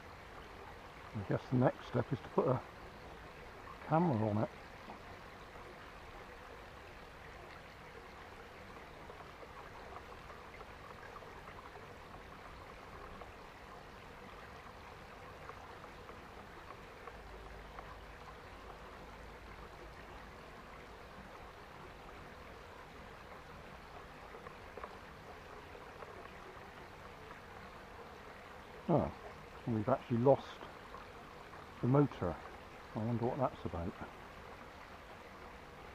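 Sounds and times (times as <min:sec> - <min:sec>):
stream trickling: 0:00.0 - 0:35.9.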